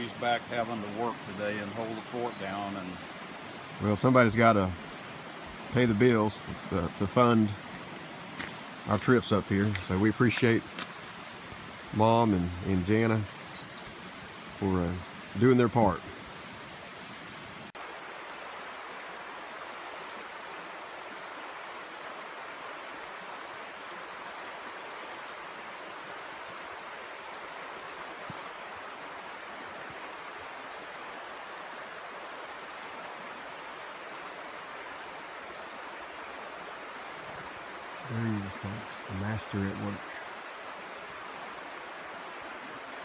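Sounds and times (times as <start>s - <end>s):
flowing stream water: 0.0s - 43.0s.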